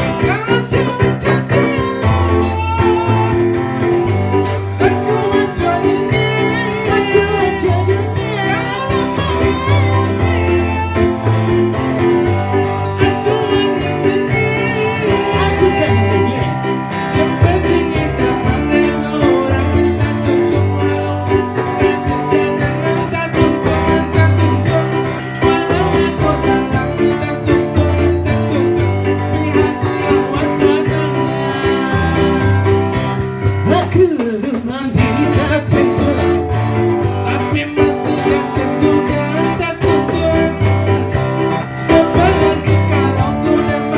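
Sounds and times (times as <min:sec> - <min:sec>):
low bass line: 0:00.0 - 0:33.9, 0:35.0 - 0:43.9
man singing into microphone: 0:00.0 - 0:43.9
strummed acoustic guitar: 0:00.0 - 0:43.9.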